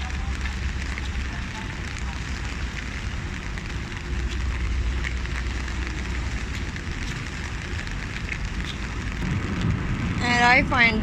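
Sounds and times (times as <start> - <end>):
rain pattering: 0.0 - 11.0
steady low rumble: 0.0 - 11.0.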